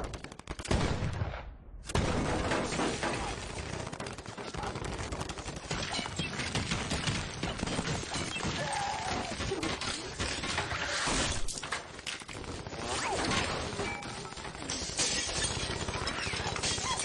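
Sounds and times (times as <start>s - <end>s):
rapid gunfire: 0.0s - 1.2s, 1.9s - 17.0s
impacts and shattering: 2.0s - 17.0s.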